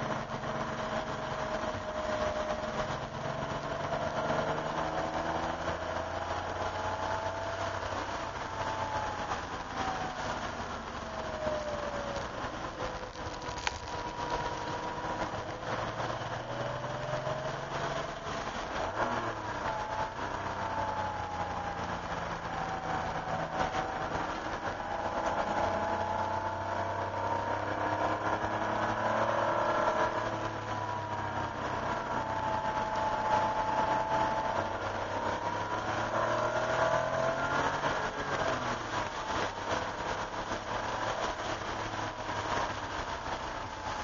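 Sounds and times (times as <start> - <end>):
car engine from inside cabin: 0.0 - 44.0.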